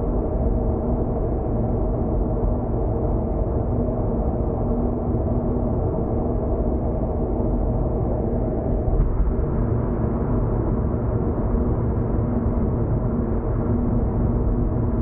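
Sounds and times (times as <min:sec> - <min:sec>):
steady engine drone: 0:00.0 - 0:15.0.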